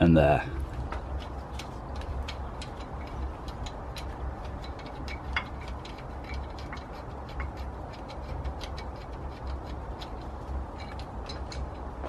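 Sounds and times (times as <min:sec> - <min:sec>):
low steady rumble: 0:00.0 - 0:12.0
metallic ticks and clicks: 0:00.6 - 0:12.0.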